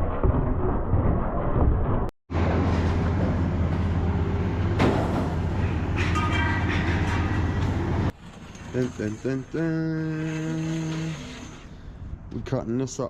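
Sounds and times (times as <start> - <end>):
low mechanical rumble with rattling: 0.8 - 12.4.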